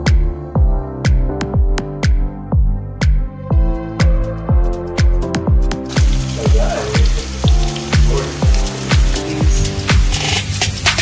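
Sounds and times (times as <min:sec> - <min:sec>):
deep pitch-dropping kick drums: 0:00.0 - 0:10.2.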